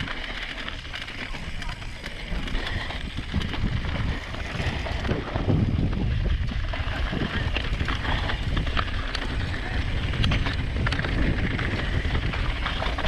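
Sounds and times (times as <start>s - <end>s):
bike clicks and rattles: 0.0s - 13.0s
bike tyres rolling on dirt: 0.0s - 13.0s
wind rushing over microphone: 0.0s - 13.0s.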